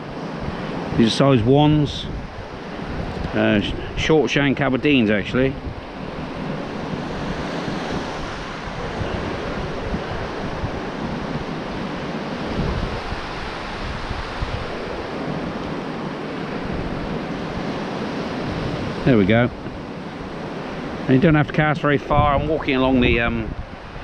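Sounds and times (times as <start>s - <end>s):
sea surf on shore: 0.0s - 24.0s
wind buffeting microphone: 0.0s - 24.0s.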